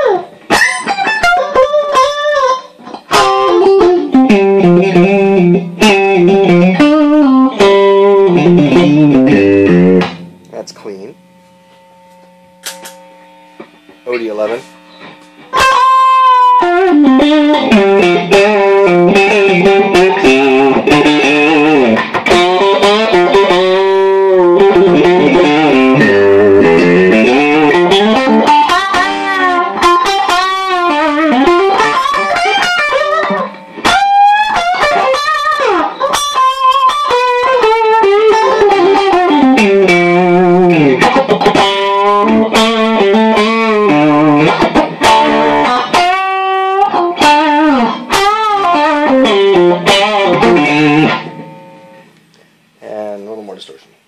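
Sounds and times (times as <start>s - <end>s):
overdriven electric guitar: 0.0s - 52.8s.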